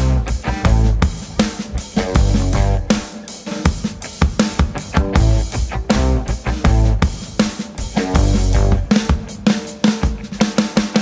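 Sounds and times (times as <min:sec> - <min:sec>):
rock music with drums and guitar: 0:00.0 - 0:11.0.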